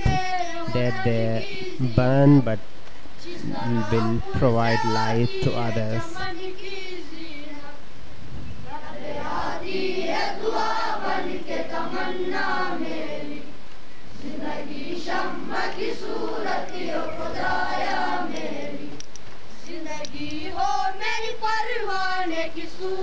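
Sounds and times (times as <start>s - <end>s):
children singing in unison: 3.2s - 7.8s, 8.6s - 23.0s.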